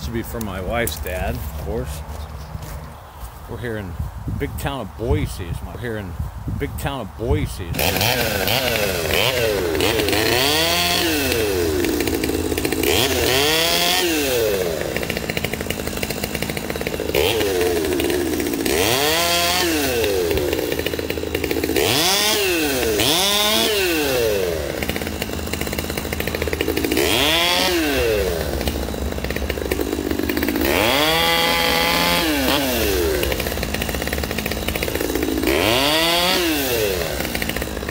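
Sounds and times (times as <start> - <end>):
chainsaw revving: 0.0 - 6.1, 7.2 - 37.9.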